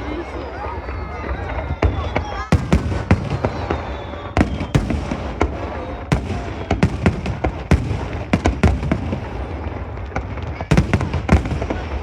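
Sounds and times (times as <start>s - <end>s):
firework shells bursting: 1.5s - 12.0s.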